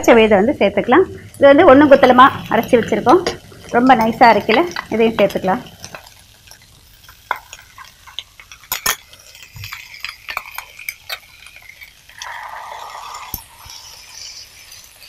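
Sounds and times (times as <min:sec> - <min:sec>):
paste sizzling in hot pan: 0:01.1 - 0:15.0.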